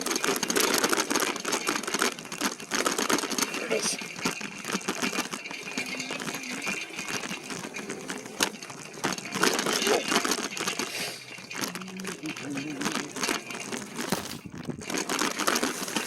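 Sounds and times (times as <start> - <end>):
bike rattling on rough trail: 0.0 - 16.0.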